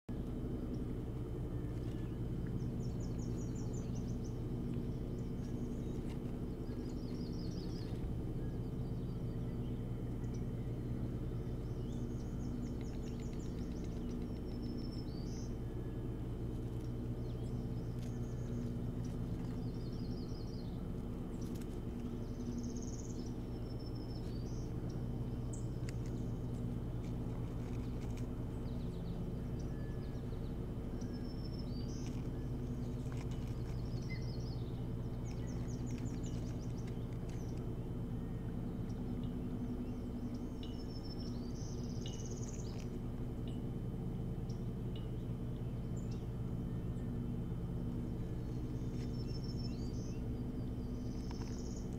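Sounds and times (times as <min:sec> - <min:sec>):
small birds singing: 0:00.0 - 0:51.9
steady low hum: 0:00.0 - 0:51.9.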